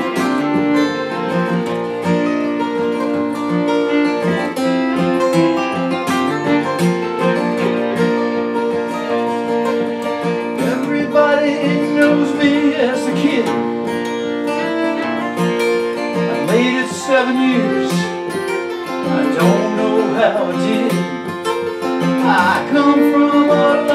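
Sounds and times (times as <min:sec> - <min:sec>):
acoustic guitars strumming: 0:00.0 - 0:23.9
fiddle melody with sliding notes: 0:00.0 - 0:23.9.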